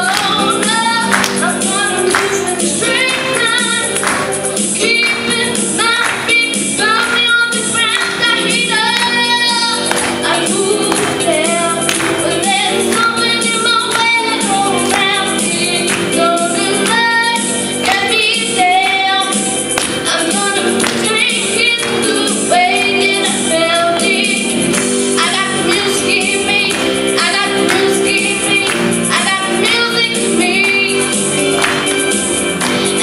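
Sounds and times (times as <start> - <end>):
girl singing into microphone: 0.0 - 31.8
musical accompaniment with beat: 0.0 - 33.0.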